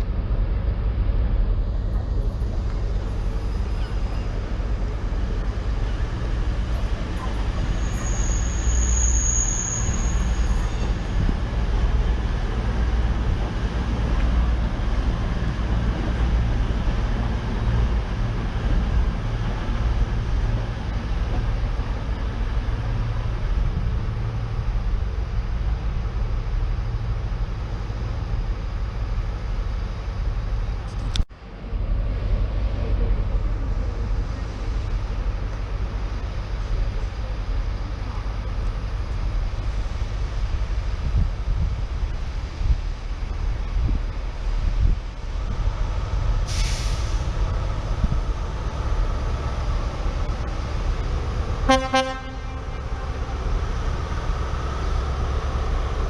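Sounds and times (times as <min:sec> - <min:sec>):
diesel train engine rumbling: 0:00.0 - 0:56.0.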